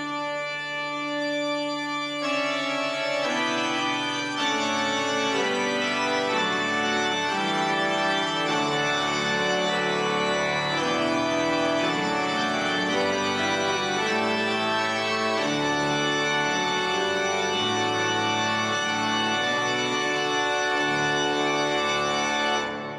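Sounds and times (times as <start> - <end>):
pipe organ playing held chords: 0.0 - 22.9.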